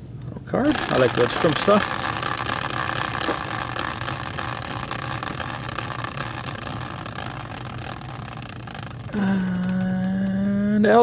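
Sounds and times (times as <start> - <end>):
wheel spinning with steady whir: 0.0 - 11.0.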